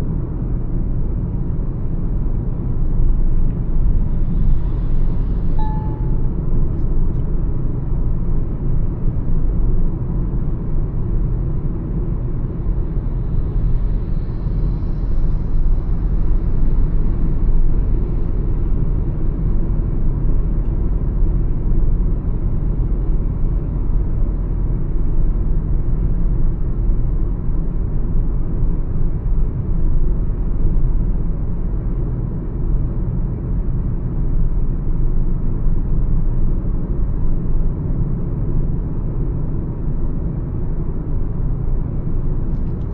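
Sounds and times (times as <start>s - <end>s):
road and wind noise: 0.0s - 42.9s.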